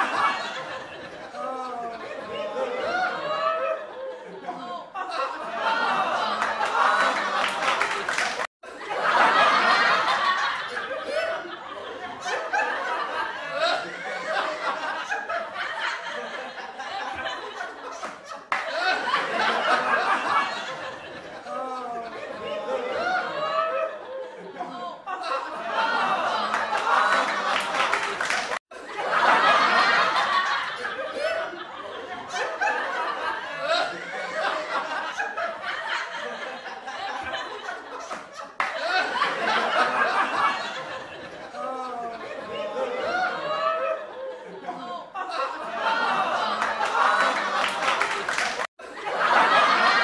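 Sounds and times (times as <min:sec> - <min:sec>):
people laughing: 0:00.0 - 0:50.0.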